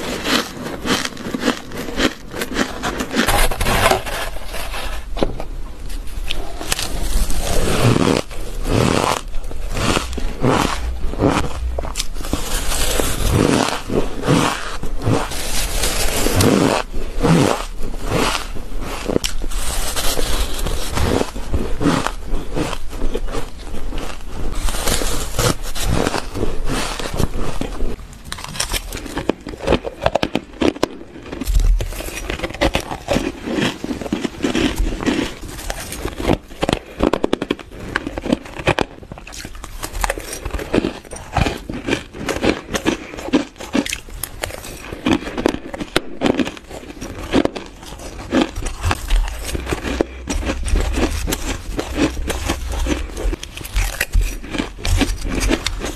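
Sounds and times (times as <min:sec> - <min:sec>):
ice being chewed: 0:00.0 - 0:05.0, 0:06.0 - 0:55.9.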